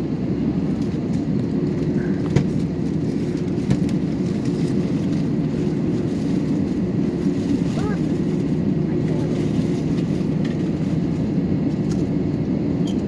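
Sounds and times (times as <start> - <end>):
aircraft cabin rumbling drone: 0.0 - 13.0.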